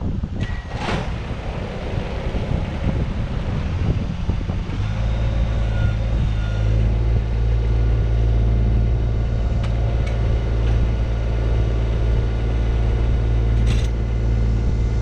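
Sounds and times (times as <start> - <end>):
diesel tractor engine running: 0.0 - 15.0
wind on microphone: 0.0 - 15.0.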